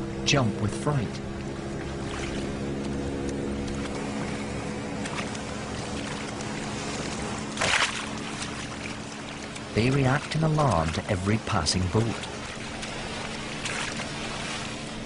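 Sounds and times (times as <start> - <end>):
motorboat engine drone: 0.0 - 15.0
fish splashing in water: 1.3 - 15.0.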